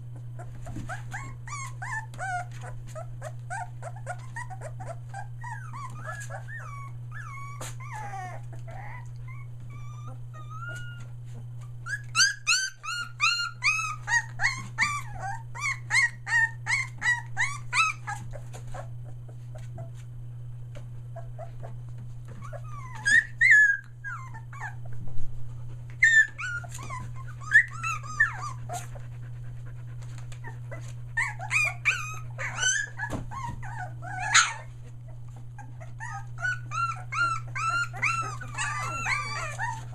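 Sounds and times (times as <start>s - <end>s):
puppies whining and crying: 0.0s - 20.1s, 20.7s - 39.9s.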